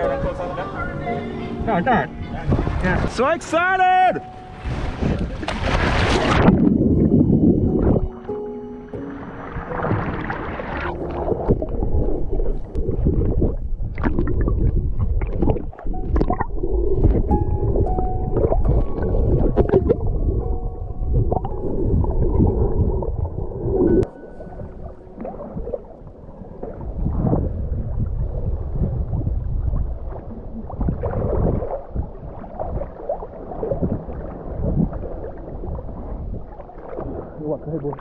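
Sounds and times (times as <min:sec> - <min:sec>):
choppy sea water sloshing: 0:01.2 - 0:38.0
underwater bubbling rumble: 0:04.7 - 0:08.3, 0:09.1 - 0:38.0.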